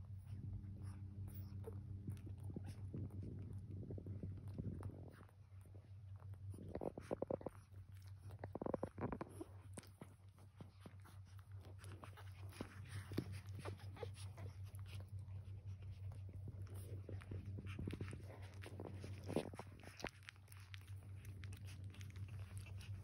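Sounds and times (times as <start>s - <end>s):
steady low hum: 0.0s - 23.0s
puppies suckling clicks: 4.2s - 23.0s.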